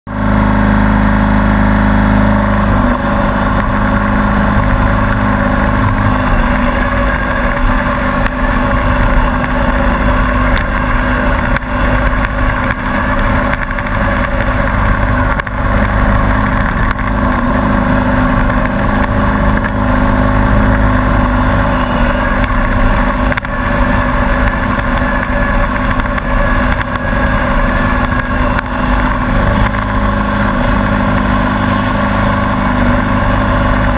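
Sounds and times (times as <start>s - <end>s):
riding mower engine running: 0.0s - 33.9s.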